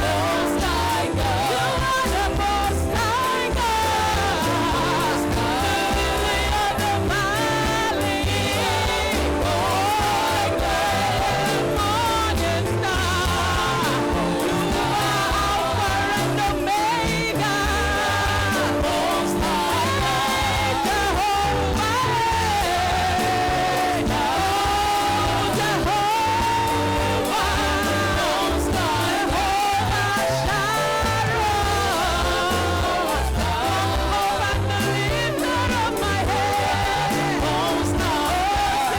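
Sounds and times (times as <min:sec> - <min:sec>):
bass line: 0:00.0 - 0:38.9
held chords: 0:00.0 - 0:38.9
lead voice singing: 0:00.0 - 0:38.9
steady beat: 0:00.0 - 0:38.9.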